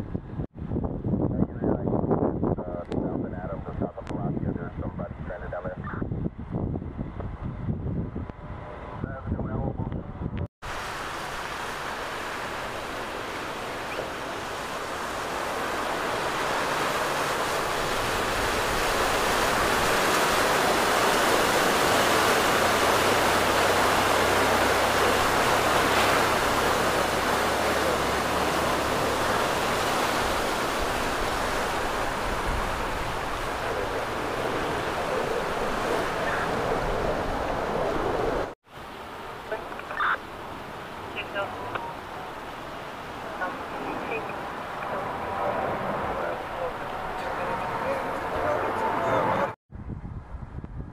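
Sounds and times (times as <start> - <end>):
low engine hum: 6.2 - 50.9.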